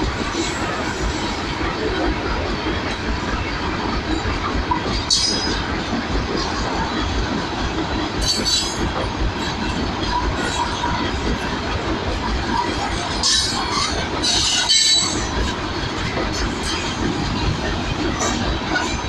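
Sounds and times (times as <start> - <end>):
freight wagon wheels rumbling on rails: 0.0 - 19.0.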